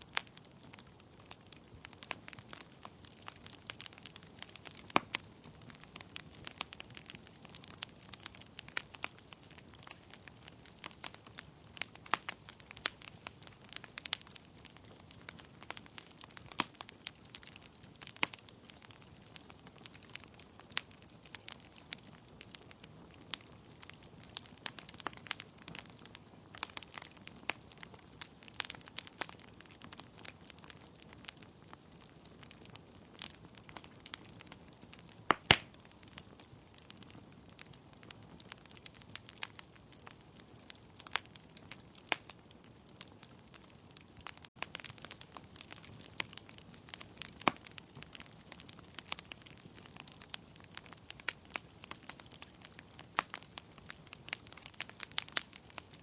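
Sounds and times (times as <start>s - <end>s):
fire pops and snaps: 0.0s - 56.0s
logs crackling in fireplace: 0.0s - 56.0s.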